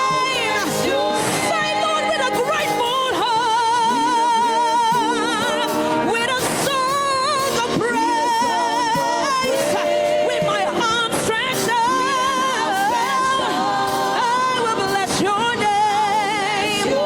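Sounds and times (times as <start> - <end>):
instrumental backing: 0.0 - 17.0
person singing with vibrato: 0.0 - 17.0.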